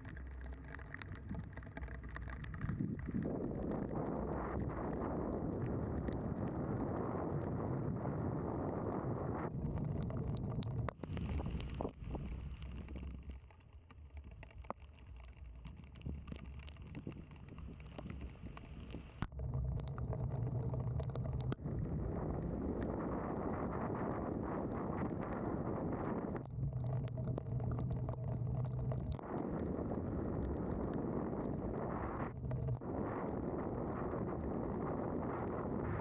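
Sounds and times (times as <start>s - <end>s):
raindrops ticking on camera: 0.0s - 35.5s
wind noise: 0.0s - 36.0s.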